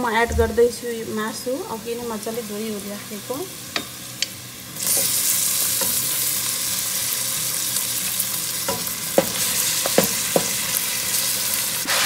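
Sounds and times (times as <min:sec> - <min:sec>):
chicken sizzling in hot oil: 0:02.3 - 0:12.0.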